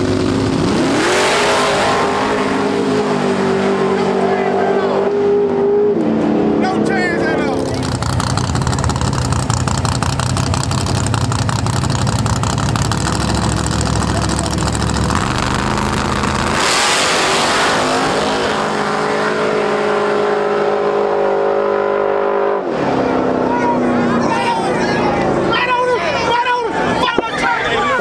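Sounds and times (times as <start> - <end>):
drag racing cars accelerating: 0.0 - 27.0.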